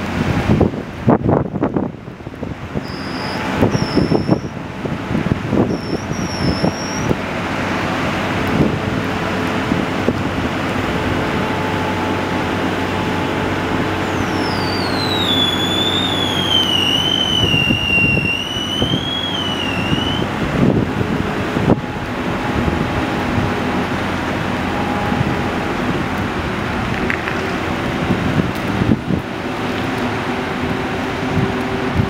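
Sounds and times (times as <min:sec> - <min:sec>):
diesel engine running: 0:00.0 - 0:32.0
high whine sliding down: 0:02.6 - 0:32.0.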